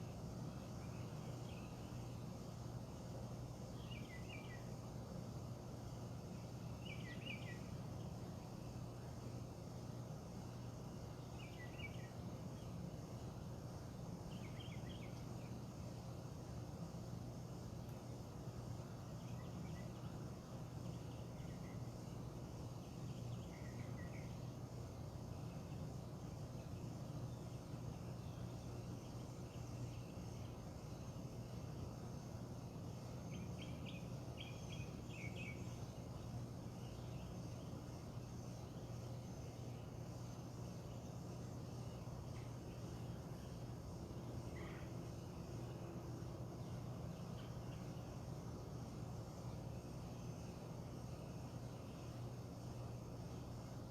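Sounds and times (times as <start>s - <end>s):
insect trill: 0.0s - 53.9s
steady low hum: 0.0s - 53.9s.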